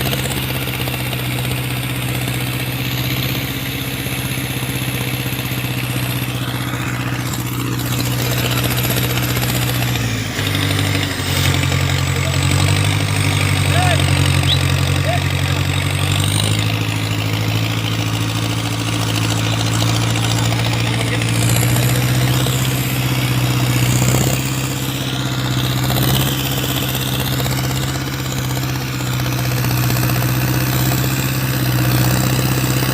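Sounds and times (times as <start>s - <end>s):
tractor engine idling: 0.0s - 32.9s.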